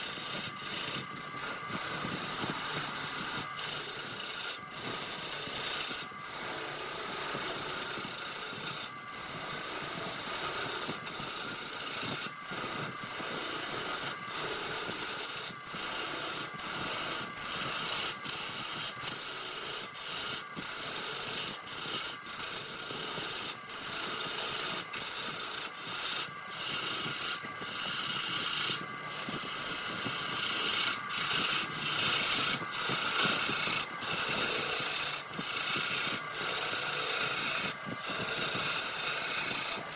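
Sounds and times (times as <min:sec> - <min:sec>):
tool scraping spinning wood on lathe: 0:00.0 - 0:39.9.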